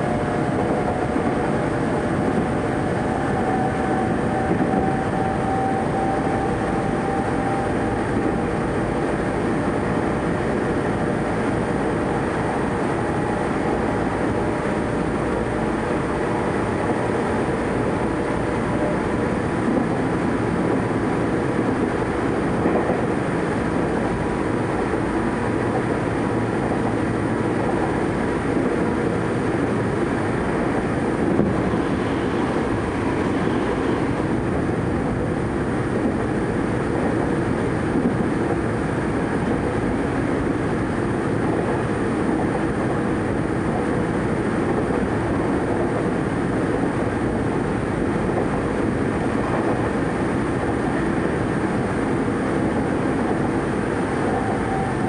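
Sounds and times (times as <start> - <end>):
thin whine: 0.0 - 55.0
train passing alongside: 0.0 - 55.0
train wheels rumbling on track: 0.0 - 55.0.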